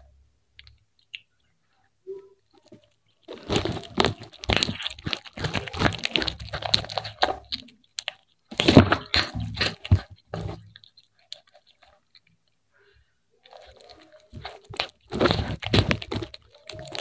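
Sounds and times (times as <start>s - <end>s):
cat crunching fish: 2.5s - 12.7s, 13.4s - 17.0s.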